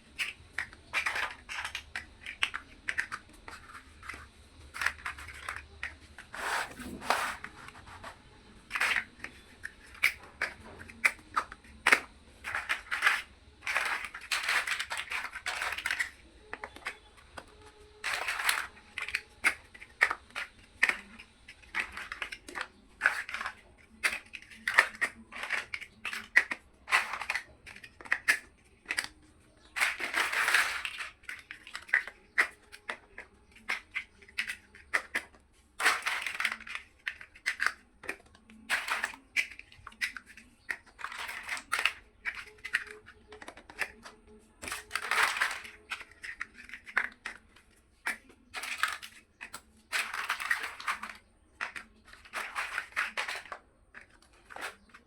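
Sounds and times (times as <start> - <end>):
plastic bricks clicking together: 0.0 - 55.0.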